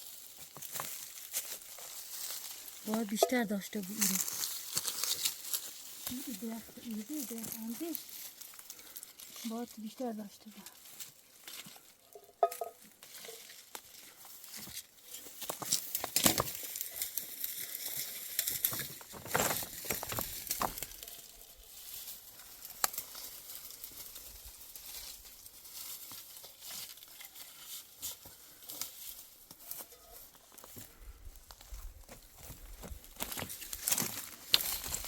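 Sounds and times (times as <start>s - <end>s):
leaves and twigs rustling: 0.0s - 35.0s
twigs snapping: 0.4s - 9.8s, 10.5s - 30.0s, 31.4s - 35.0s.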